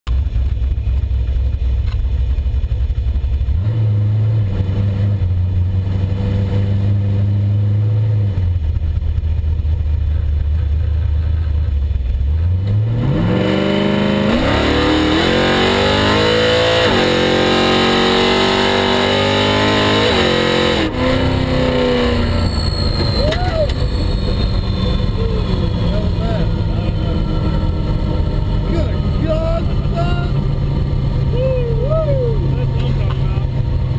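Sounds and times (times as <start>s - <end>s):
car engine revving and accelerating: 3.4s - 8.7s, 9.8s - 33.9s.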